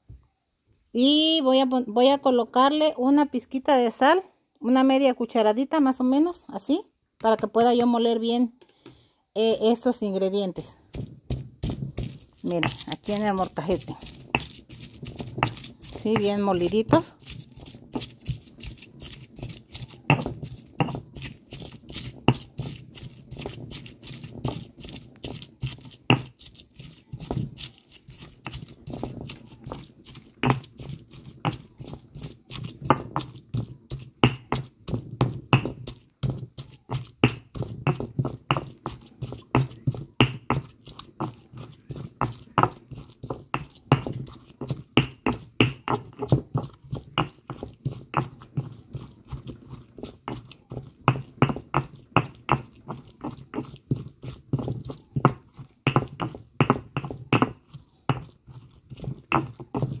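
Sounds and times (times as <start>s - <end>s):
stone pestle grinding: 10.6s - 60.0s.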